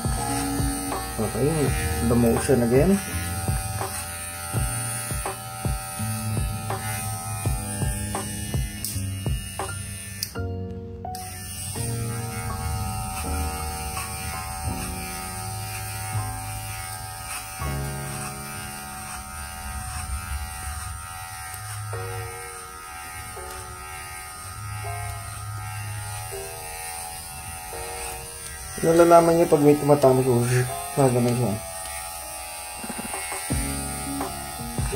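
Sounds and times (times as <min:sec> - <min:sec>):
electric hair clipper running: 0:00.0 - 0:10.5, 0:11.1 - 0:34.9
background music: 0:00.0 - 0:34.9.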